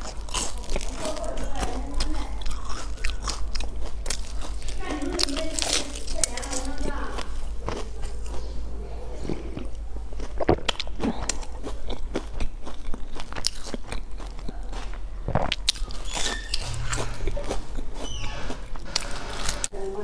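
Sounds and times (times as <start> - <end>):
chewing with wet mouth clicks: 0.0 - 8.6, 9.2 - 19.7.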